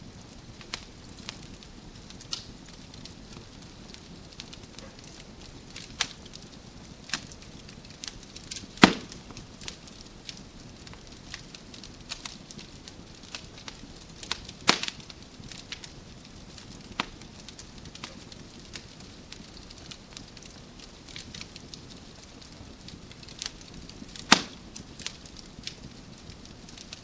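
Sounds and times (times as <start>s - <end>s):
wood fire crackling: 0.0s - 27.0s
burning logs popping: 0.1s - 27.0s.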